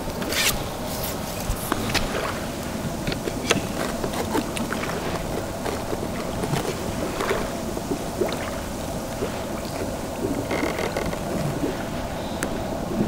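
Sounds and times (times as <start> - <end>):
steady rushing water-like noise: 0.0 - 13.0.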